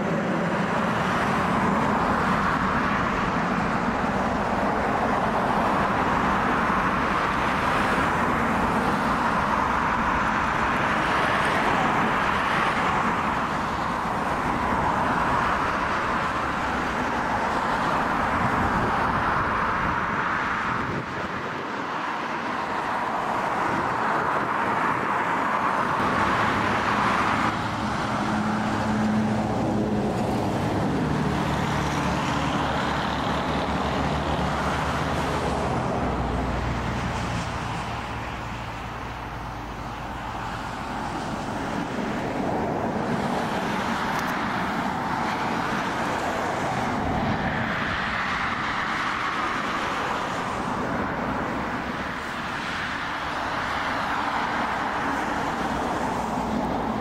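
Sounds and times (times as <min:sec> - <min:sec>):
jet airliner engines roaring: 0:00.0 - 0:57.0.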